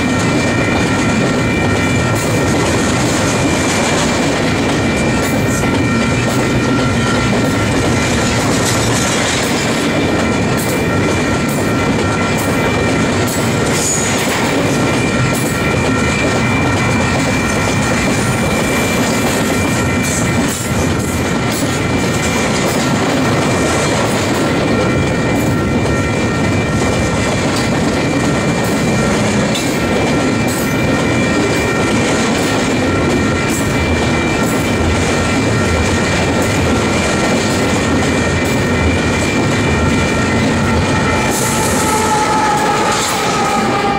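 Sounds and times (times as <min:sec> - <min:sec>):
high-pitched ringing: 0:00.0 - 0:43.9
rail clicks: 0:00.0 - 0:43.9
train wheels rumbling on rail: 0:00.0 - 0:43.9.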